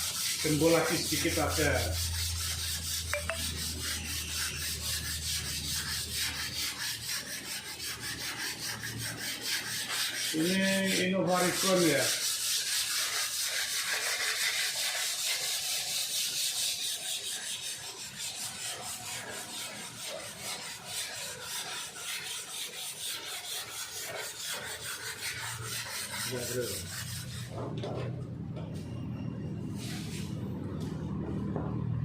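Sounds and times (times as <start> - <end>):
sanding scraping rasp: 0.0 - 27.7.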